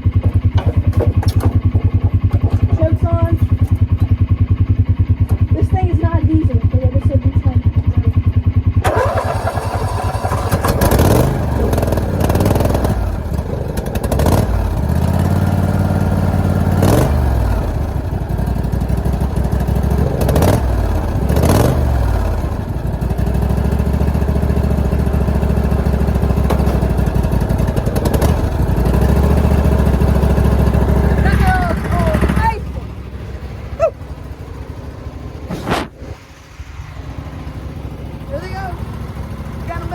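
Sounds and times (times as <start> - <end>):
lawnmower engine revving and idling: 0.0 - 39.9.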